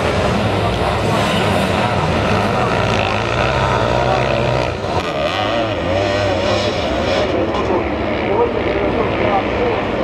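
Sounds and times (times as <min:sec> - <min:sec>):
motocross engines racing: 0:00.0 - 0:10.0.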